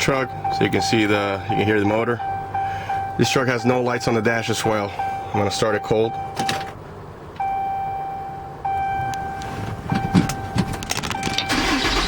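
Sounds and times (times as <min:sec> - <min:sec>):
dashboard warning chime: 0:00.0 - 0:06.8, 0:07.4 - 0:12.0.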